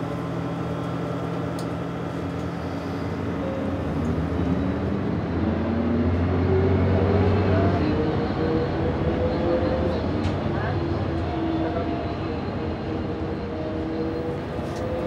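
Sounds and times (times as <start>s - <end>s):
bus engine accelerating: 0.0s - 15.0s.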